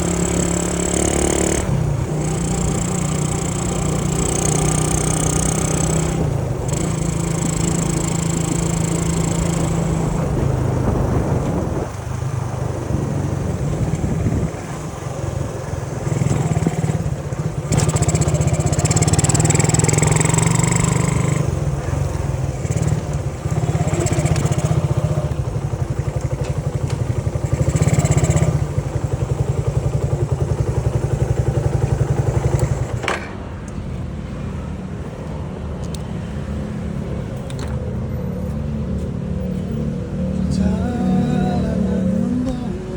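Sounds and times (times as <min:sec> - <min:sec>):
motorcycle engine revving: 0:00.0 - 0:33.3, 0:36.9 - 0:42.9.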